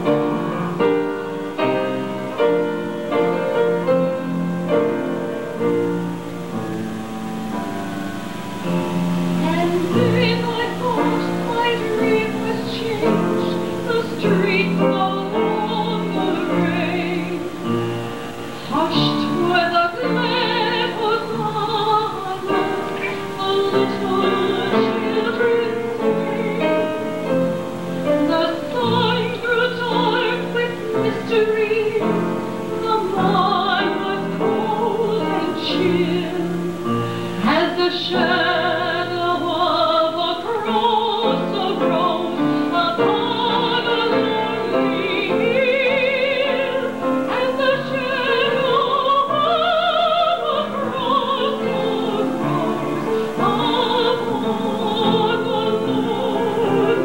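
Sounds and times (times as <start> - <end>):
woman singing with vibrato: 0.0 - 57.0.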